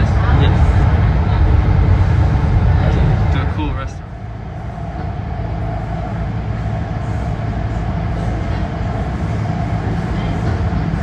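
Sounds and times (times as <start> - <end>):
train rumble: 0.0 - 11.0
train whine: 0.0 - 11.0.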